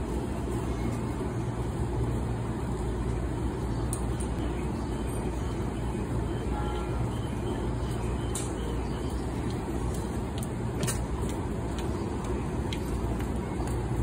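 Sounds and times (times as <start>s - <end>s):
train humming: 0.0s - 14.0s.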